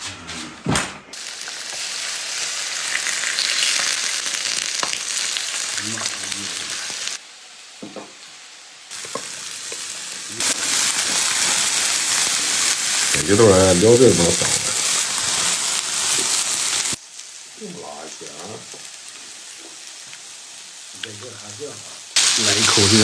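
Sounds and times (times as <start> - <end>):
beef sizzling on a grill: 1.2 - 23.0.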